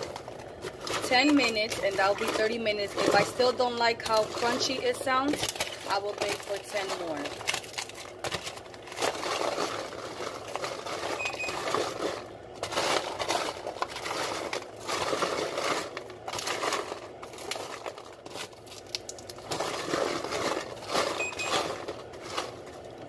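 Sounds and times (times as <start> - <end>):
popcorn crunching in foil pans: 0.0 - 23.0.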